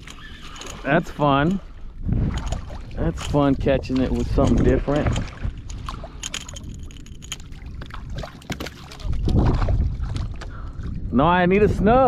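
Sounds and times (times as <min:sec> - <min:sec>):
water sloshing against hull: 0:00.0 - 0:11.2
wind rumble on microphone: 0:00.0 - 0:12.0.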